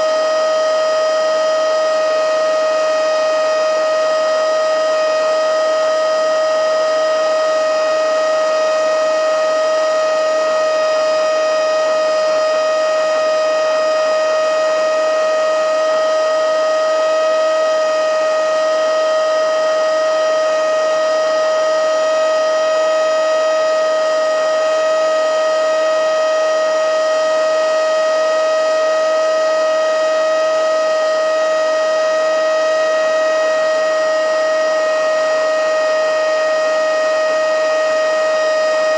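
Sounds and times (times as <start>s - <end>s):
mini vacuum cleaner motor whine: 0.0s - 38.9s.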